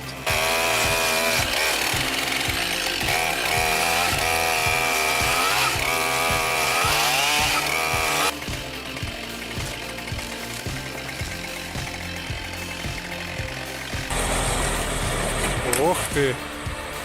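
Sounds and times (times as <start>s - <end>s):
background music with steady beat: 0.0s - 17.0s
chainsaw cutting wood: 0.0s - 17.0s.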